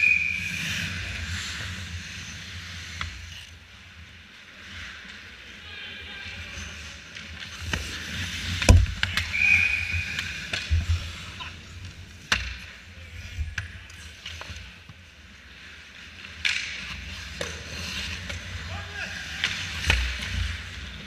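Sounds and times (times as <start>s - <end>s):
hockey sticks and puck clacking: 0.0s - 3.4s, 6.7s - 21.0s
skates scraping ice: 0.0s - 21.0s.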